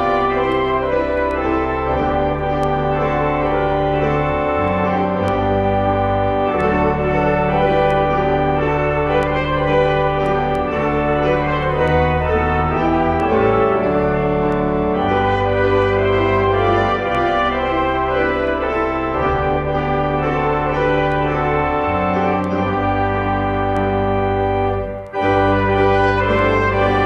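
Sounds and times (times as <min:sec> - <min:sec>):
organ playing hymn: 0:00.0 - 0:27.0
trumpet playing hymn: 0:00.0 - 0:27.0.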